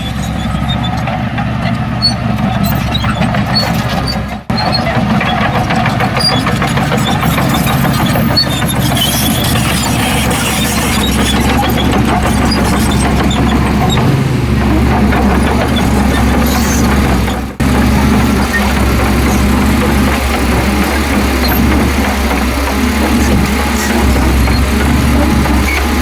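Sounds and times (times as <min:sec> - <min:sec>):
continuous rattle: 0:00.0 - 0:26.0
heavy diesel engine running: 0:00.0 - 0:26.0.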